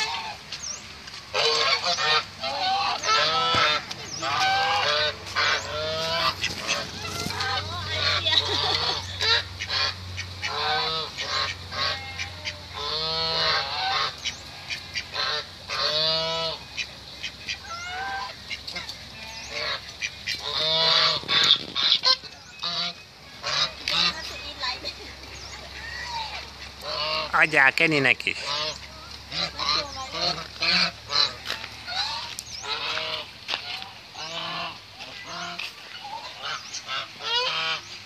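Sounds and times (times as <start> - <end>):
geese honking: 0.0 - 0.5, 1.3 - 38.0.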